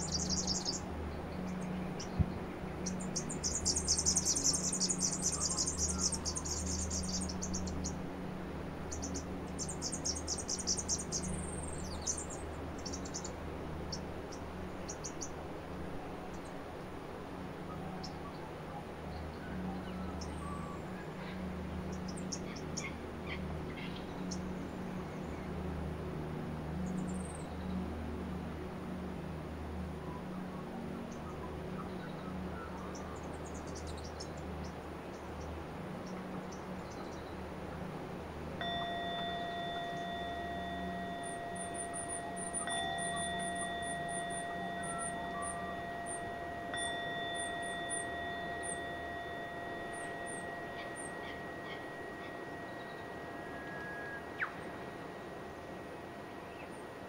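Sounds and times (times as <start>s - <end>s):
small birds chirping: 0.0s - 8.1s, 8.8s - 15.5s, 17.6s - 25.6s, 30.0s - 57.0s
low steady drone: 0.0s - 57.0s.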